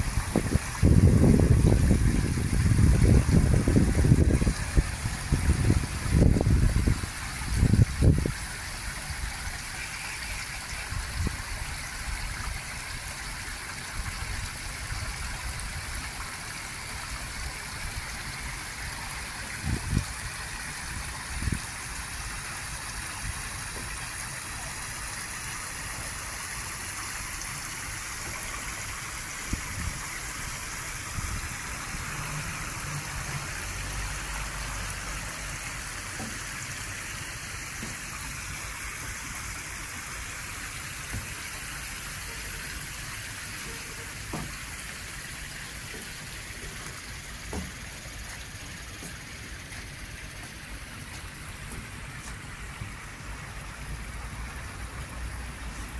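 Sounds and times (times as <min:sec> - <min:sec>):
stream water trickling over stones: 0:00.0 - 0:55.9.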